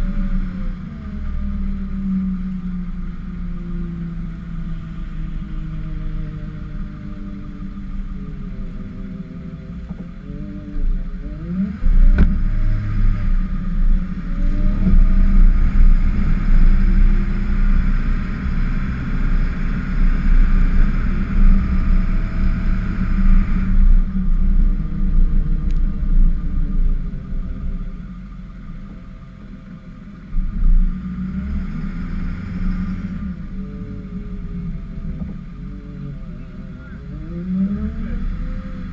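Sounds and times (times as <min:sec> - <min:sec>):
truck engine rumbling under load: 0:00.0 - 0:38.9.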